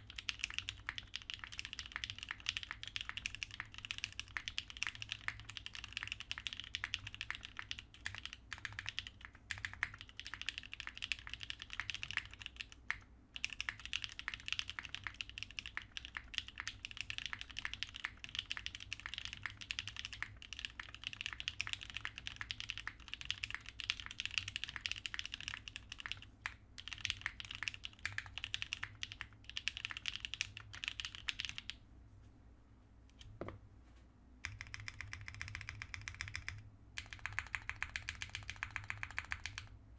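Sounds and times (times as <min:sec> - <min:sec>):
mechanical keyboard typing: 0:00.0 - 0:31.8, 0:34.4 - 0:39.7.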